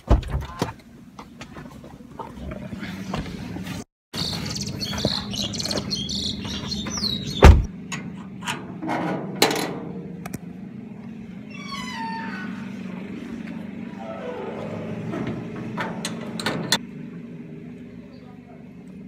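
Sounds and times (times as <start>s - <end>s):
car engine and road hum: 0.7s - 19.0s.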